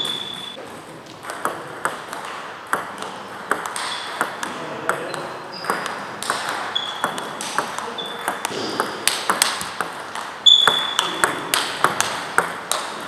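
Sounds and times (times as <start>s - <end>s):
table tennis balls clicking: 0.0s - 13.0s.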